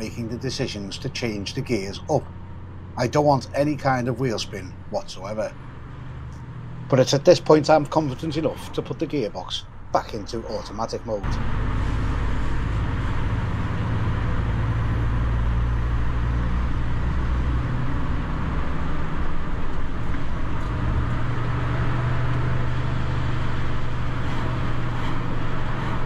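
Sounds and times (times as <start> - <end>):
road and wind noise: 0.0 - 26.0
truck diesel engine pulling uphill: 0.0 - 26.0.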